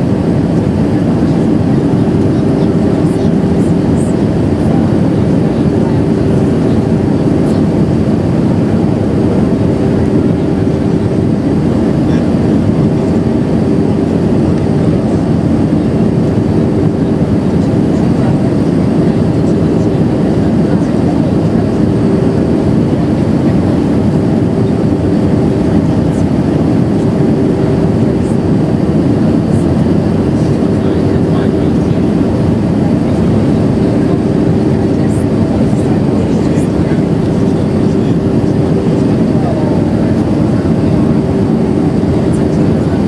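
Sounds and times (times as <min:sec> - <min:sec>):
airflow and jet engine rush: 0:00.0 - 0:43.0.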